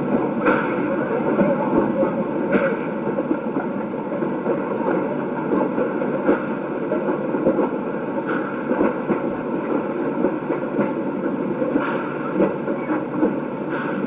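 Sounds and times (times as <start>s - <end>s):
train carriages rumbling: 0.0s - 14.0s.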